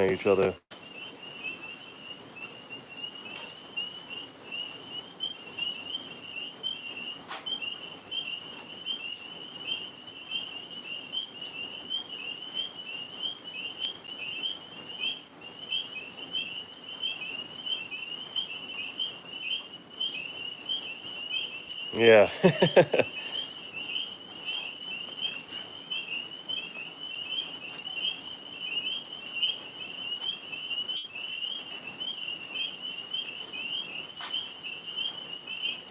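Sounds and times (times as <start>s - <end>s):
tree frogs chirping: 0.0s - 35.9s.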